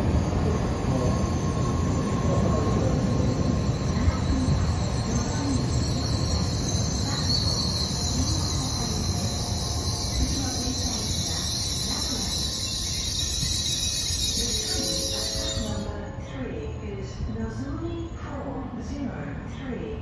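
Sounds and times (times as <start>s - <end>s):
train passing on tracks: 0.0s - 20.0s.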